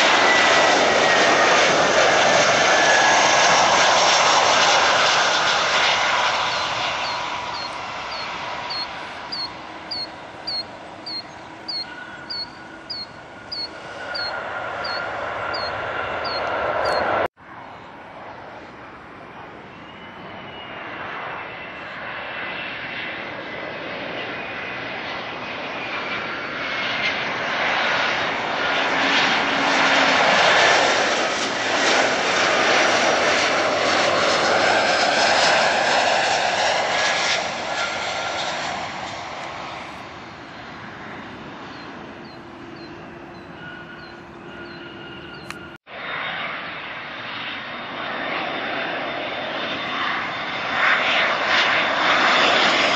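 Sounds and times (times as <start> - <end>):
jet engine roar and whine: 0.0 - 52.9.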